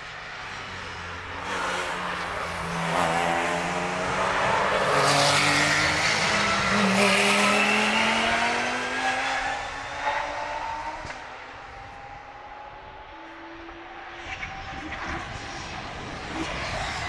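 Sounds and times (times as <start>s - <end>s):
race car engines accelerating past: 0.0s - 17.0s.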